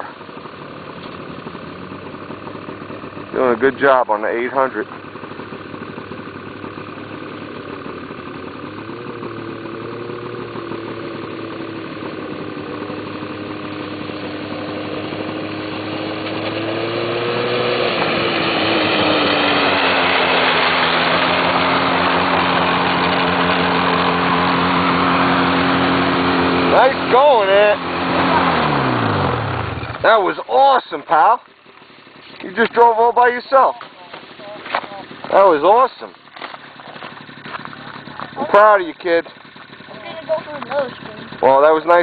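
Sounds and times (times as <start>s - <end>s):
snowmobile engine running: 0.0s - 42.0s.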